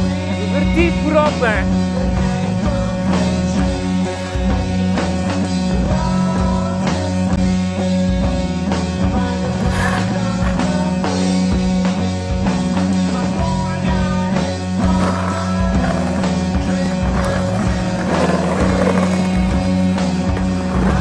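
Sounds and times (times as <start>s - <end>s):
rock music: 0.0s - 21.0s
skateboard wheels rolling on concrete: 0.0s - 21.0s.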